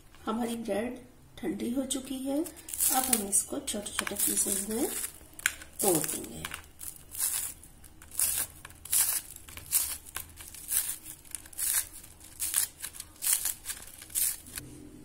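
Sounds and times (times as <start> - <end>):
hands tearing dry bread: 2.5 - 14.6.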